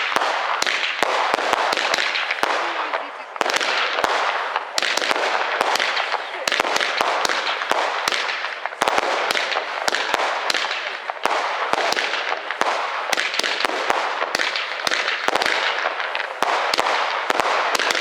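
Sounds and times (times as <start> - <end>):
fireworks crackling hiss: 0.0 - 18.0
fireworks sharp bangs: 0.0 - 18.0.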